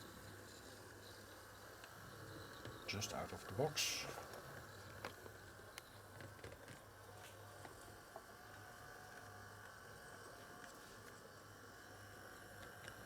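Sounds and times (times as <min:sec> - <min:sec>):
model locomotive motor hum: 0:00.0 - 0:13.0.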